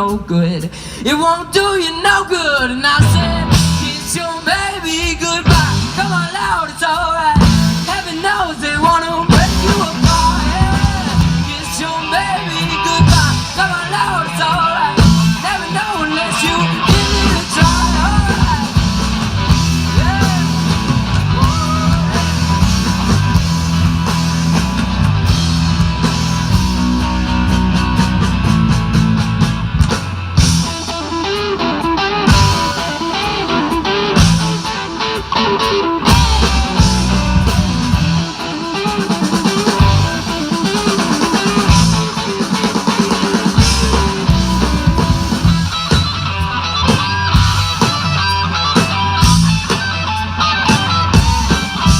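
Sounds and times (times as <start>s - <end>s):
bass guitar: 0.0s - 51.9s
drum kit: 0.0s - 51.9s
electric guitar: 0.0s - 51.9s.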